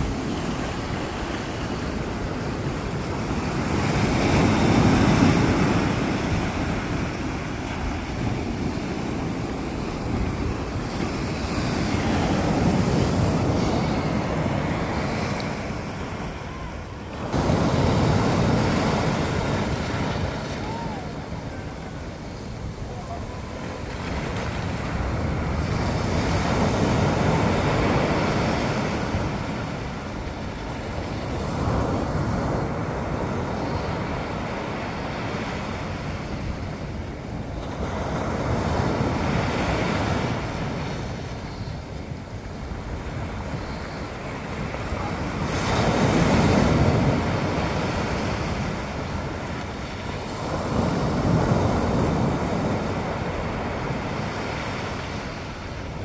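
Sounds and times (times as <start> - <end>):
ocean waves breaking: 0.0 - 56.0
wind rumbling on microphone: 0.0 - 56.0.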